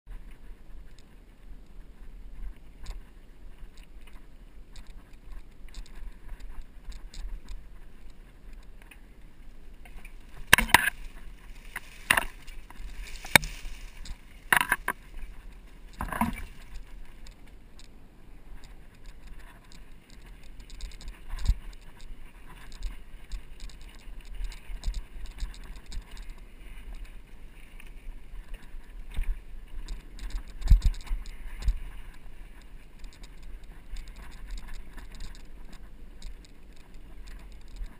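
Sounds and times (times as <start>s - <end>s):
bike rattling: 0.1s - 37.9s
bike tyres crunching on dirt: 0.1s - 37.9s.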